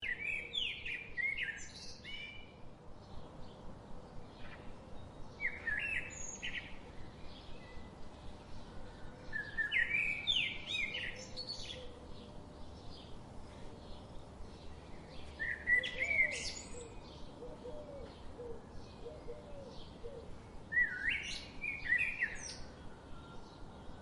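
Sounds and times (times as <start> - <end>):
faint steady hum: 0.0 - 24.0
songbird singing: 0.0 - 24.0.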